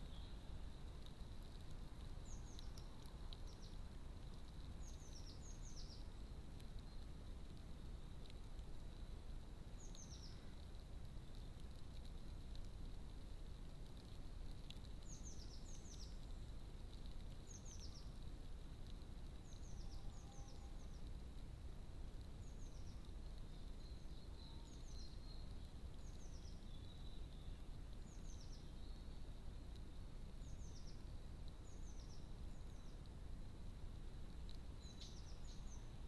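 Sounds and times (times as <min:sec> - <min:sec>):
small bird chirping: 0:00.0 - 0:09.1, 0:09.7 - 0:10.6, 0:14.0 - 0:18.2, 0:18.8 - 0:21.2, 0:22.4 - 0:33.1, 0:34.5 - 0:36.0.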